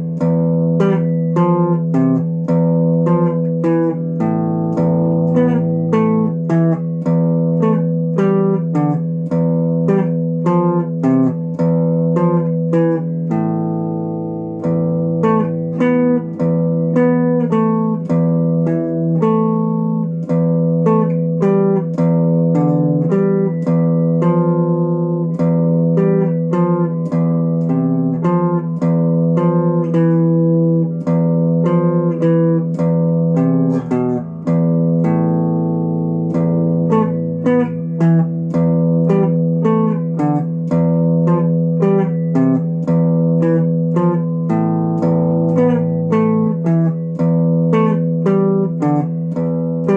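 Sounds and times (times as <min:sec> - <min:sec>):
plucked guitar music: 0:00.0 - 0:49.9.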